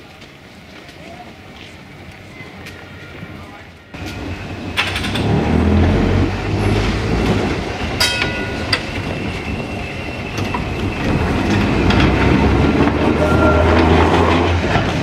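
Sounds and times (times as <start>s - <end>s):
tram wheels rumbling on rail: 0.0s - 15.0s.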